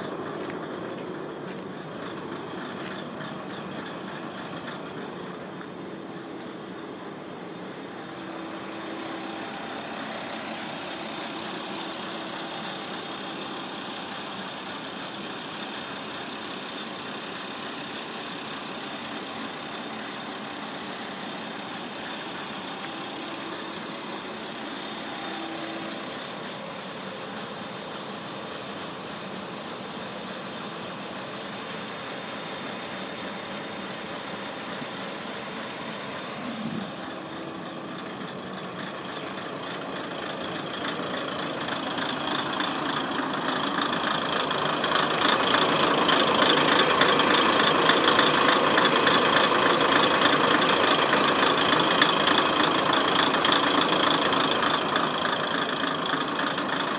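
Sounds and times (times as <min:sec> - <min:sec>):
diesel railcar engine idling: 0:00.0 - 0:56.9.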